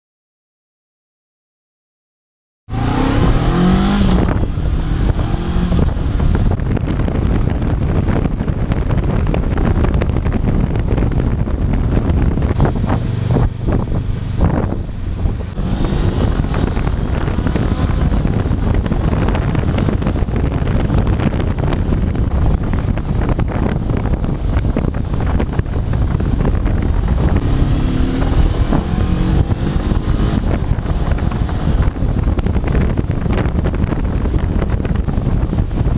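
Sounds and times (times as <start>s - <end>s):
wind buffeting microphone: 2.7s - 35.9s
motorcycle engine running: 2.8s - 35.9s.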